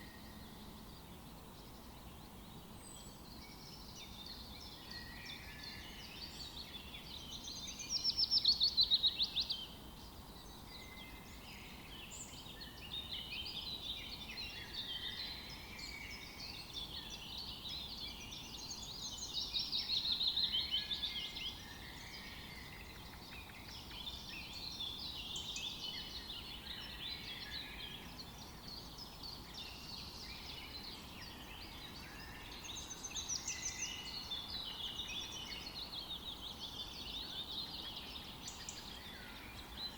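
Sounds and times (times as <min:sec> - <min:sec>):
faint outdoor hiss: 0:00.0 - 0:39.9
songbirds chirping and singing: 0:00.0 - 0:39.9.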